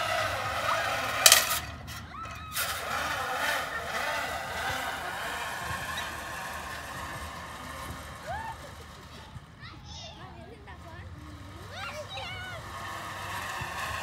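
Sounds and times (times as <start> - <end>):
zip line trolley clanking: 0.0 - 14.0
distant children's voices: 2.0 - 14.0.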